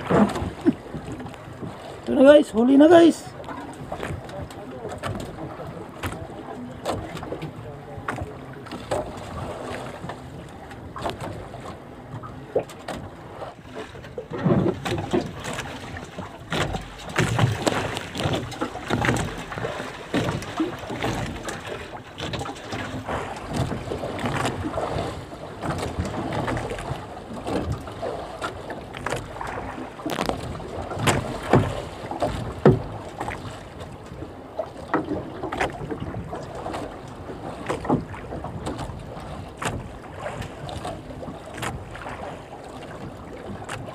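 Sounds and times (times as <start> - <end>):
knocks and clatter on hull: 0.0 - 43.9
water sloshing against boat: 0.0 - 43.9.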